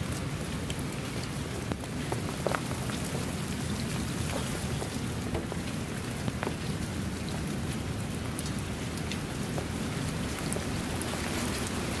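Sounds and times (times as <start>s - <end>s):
rain falling on puddles: 0.0s - 12.0s.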